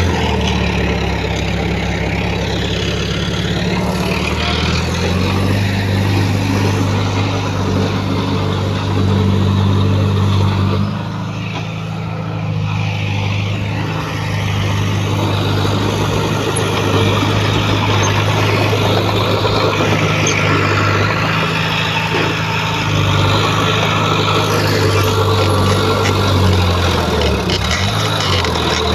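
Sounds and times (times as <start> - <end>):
diesel engine droning under load: 0.0 - 28.9.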